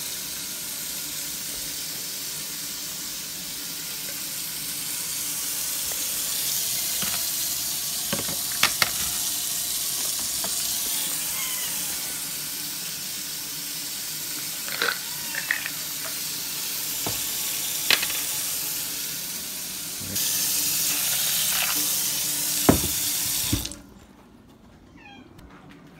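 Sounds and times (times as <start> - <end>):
tap water running into sink: 0.0 - 23.8.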